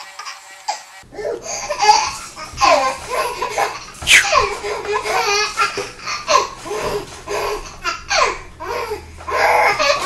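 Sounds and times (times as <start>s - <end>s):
baby laughing: 0.2s - 10.0s.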